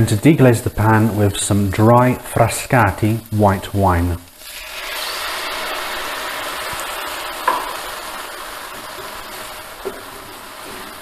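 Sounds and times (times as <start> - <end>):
wine sizzling in a hot pan: 0.0 - 11.0.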